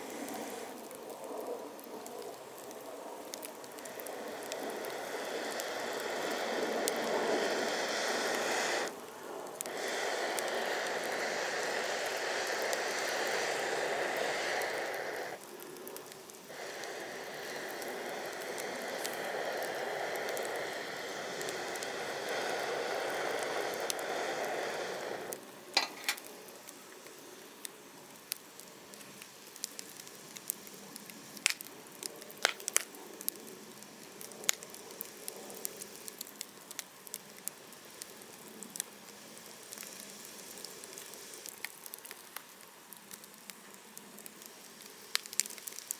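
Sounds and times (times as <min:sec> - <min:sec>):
bonfire hissing: 0:00.0 - 0:45.9
fire crackling and popping: 0:00.0 - 0:45.9.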